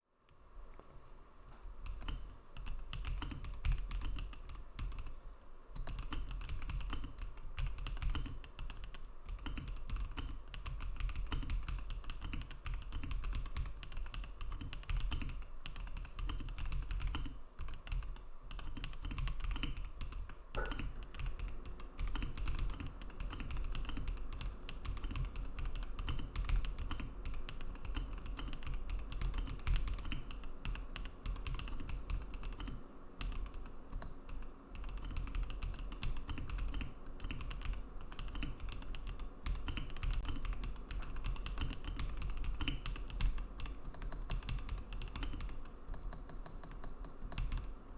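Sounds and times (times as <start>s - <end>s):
rapid typing on mechanical keyboard: 1.8s - 5.1s, 5.8s - 47.8s.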